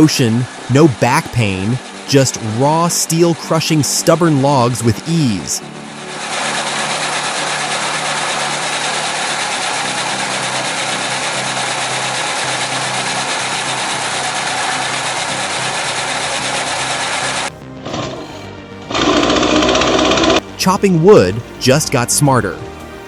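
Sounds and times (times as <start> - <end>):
log splitter engine and pump: 0.0 - 23.0.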